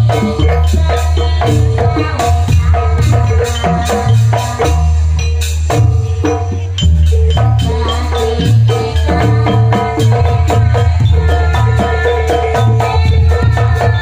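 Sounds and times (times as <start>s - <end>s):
barrel drum beats: 0.0s - 14.0s.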